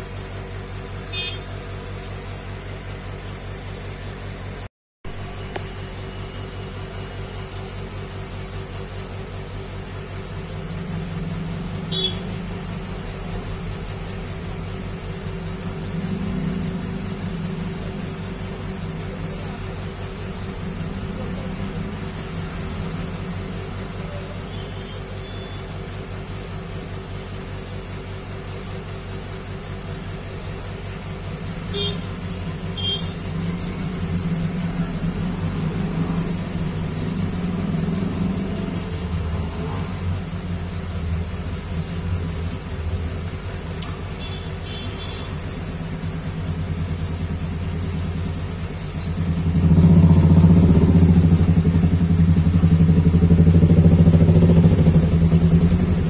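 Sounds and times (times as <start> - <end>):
low engine hum: 0.0 - 56.0.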